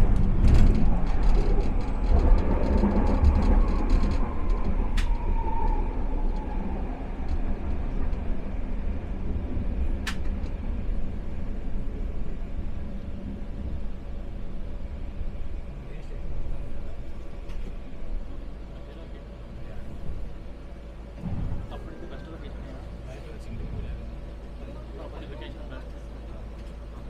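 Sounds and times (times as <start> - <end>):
faint train whine: 0.0 - 27.0
train rumbling on track: 0.0 - 27.0.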